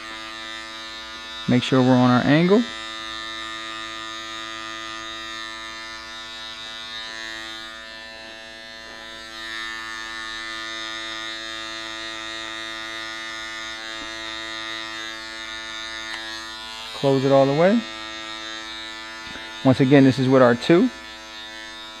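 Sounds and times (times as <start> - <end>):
electric hair clipper buzzing: 0.0 - 22.0.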